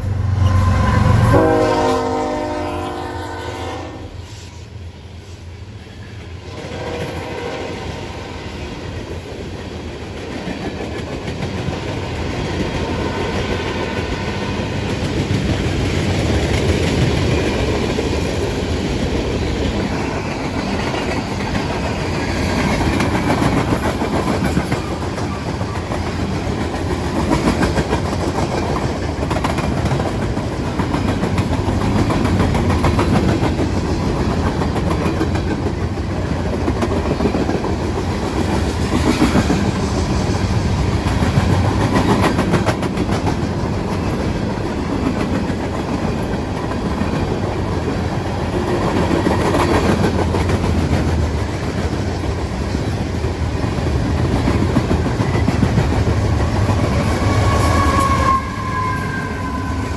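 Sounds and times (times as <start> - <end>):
freight train wheels clattering: 4.7 - 59.9.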